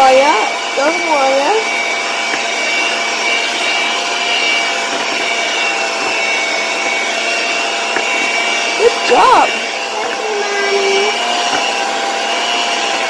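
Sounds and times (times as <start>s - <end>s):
electric hand mixer whirring: 0.0s - 13.0s.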